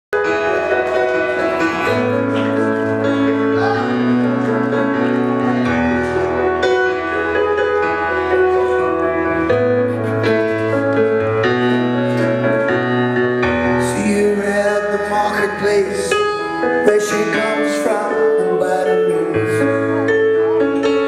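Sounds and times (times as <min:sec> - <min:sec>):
keyboard: 0:00.1 - 0:21.0.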